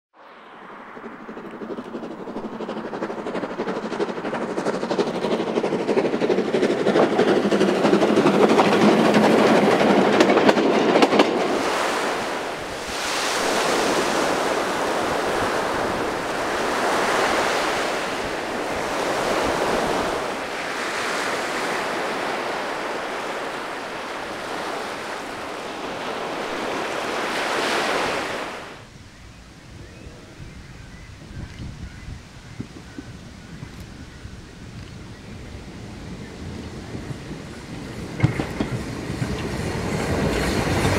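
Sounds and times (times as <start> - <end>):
steam train passing: 0.2 - 30.6, 33.2 - 40.9
waves breaking on a sand beach: 0.2 - 40.9
sharp train clicks: 0.6 - 28.7, 36.2 - 40.9.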